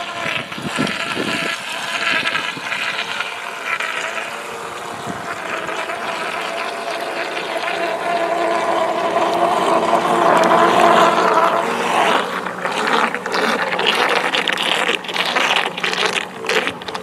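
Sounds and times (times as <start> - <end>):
small outboard motor whine: 0.0 - 17.0
water splashing at hull: 0.0 - 17.0.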